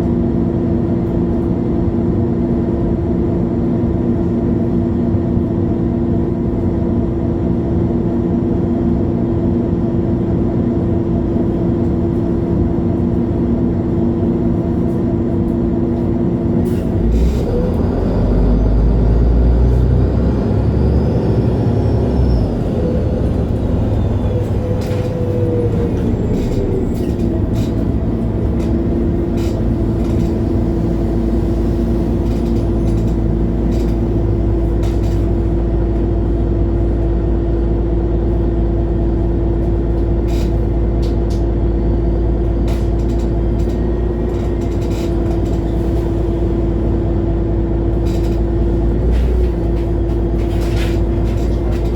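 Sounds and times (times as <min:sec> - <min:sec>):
bus diesel engine: 0:00.0 - 0:51.9
high engine whine: 0:09.2 - 0:51.9.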